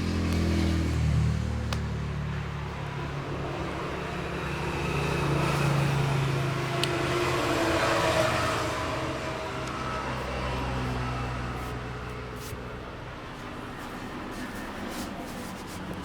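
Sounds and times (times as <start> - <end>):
road noise: 0.0 - 16.0
vehicle engine hum: 0.0 - 16.0.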